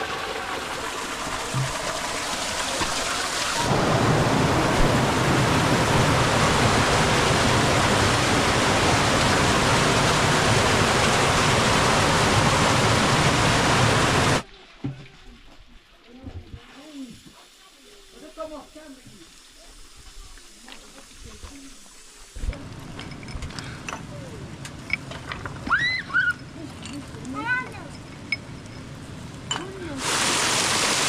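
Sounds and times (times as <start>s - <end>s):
falling water rushing: 0.0s - 15.4s, 16.1s - 26.6s, 27.4s - 31.0s.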